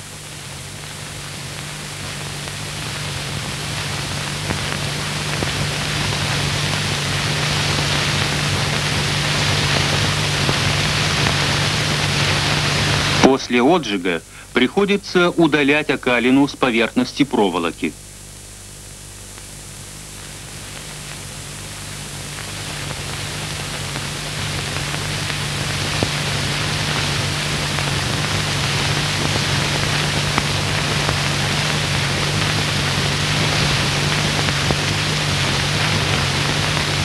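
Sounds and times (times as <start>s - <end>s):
low steady hum: 0.0s - 37.0s
steady hiss: 0.0s - 37.0s.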